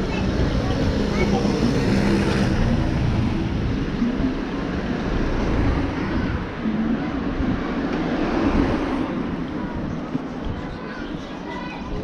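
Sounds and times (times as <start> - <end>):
faint voices: 0.0 - 12.0
low street rumble: 0.0 - 12.0.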